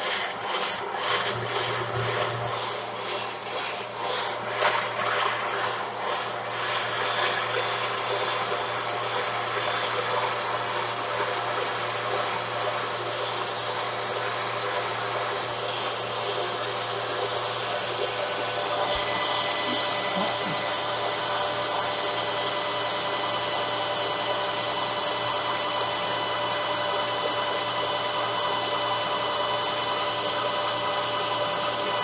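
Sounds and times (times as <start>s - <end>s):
metal lathe running: 0.0s - 32.0s.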